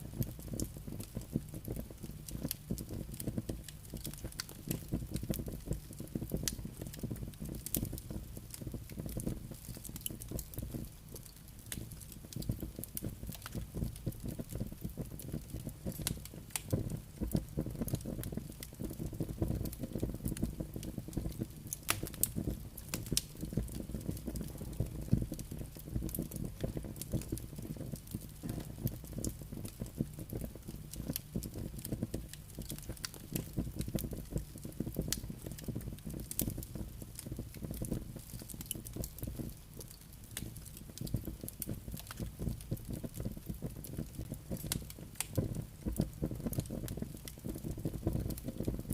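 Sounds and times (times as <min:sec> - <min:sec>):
campfire crackling and popping: 0:00.0 - 0:48.9
low rumble of burning: 0:00.0 - 0:48.9.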